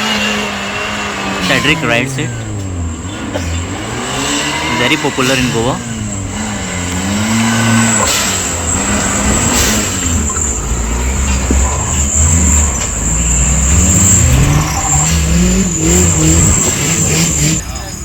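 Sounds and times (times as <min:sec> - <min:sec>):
engine revving under load: 0:00.0 - 0:18.0.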